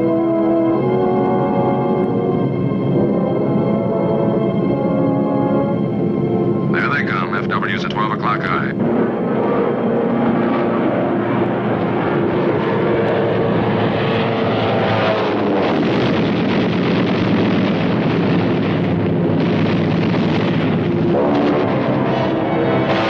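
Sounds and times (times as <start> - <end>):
piston aircraft engines droning: 0.0 - 23.0.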